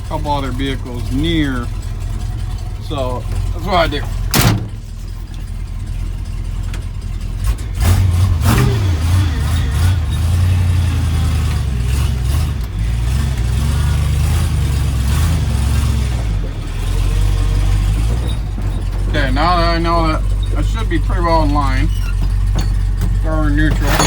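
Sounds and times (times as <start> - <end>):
engine low rumble: 0.0 - 24.0.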